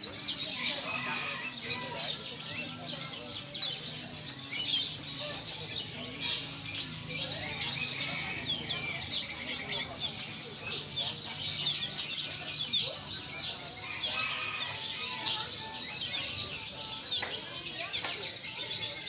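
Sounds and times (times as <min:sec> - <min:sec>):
caged songbirds chirping: 0:00.0 - 0:19.0.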